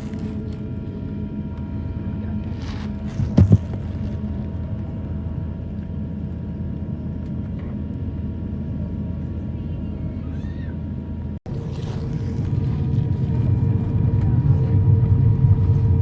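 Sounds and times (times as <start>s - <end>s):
aircraft cabin rumble and hum: 0.0s - 16.0s.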